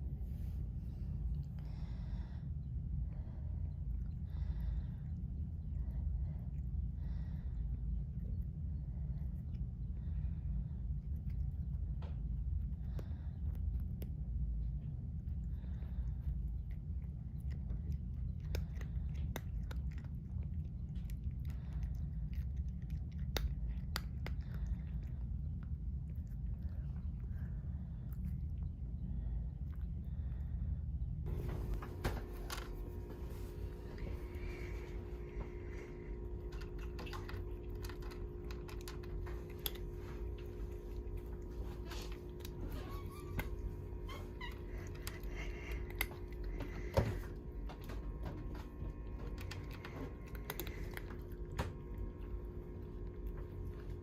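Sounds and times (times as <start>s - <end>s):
cat chewing and crunching: 0.0s - 54.0s
steady low hum: 0.0s - 54.0s.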